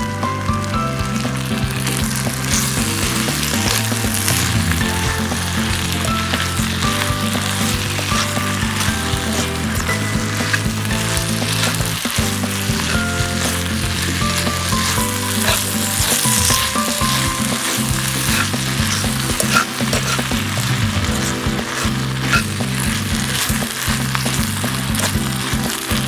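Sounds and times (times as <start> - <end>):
rice sizzling in a hot pan: 0.0 - 26.0
stirring clicks: 1.8 - 26.0.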